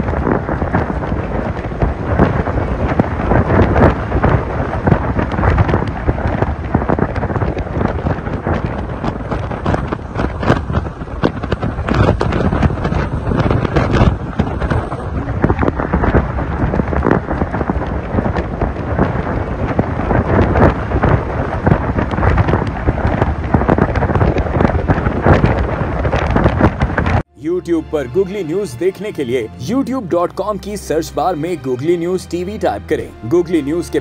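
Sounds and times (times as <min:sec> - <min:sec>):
wind buffeting microphone: 0:00.0 - 0:30.5.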